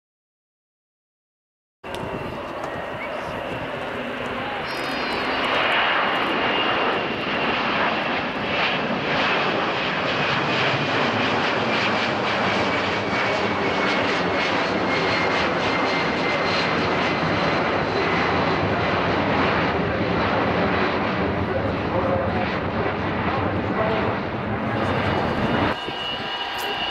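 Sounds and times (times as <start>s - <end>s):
jet aircraft passing overhead: 1.9s - 26.9s.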